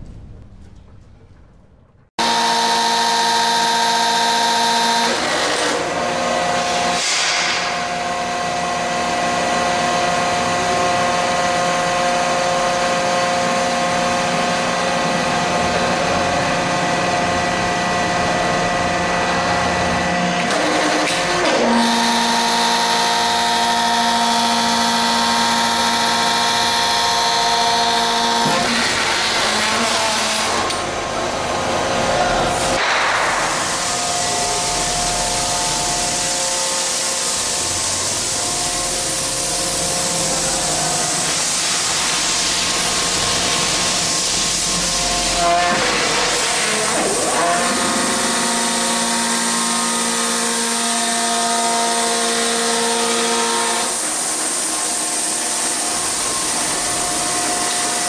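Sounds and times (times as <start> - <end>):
hydraulic pump whining: 2.2 - 58.0.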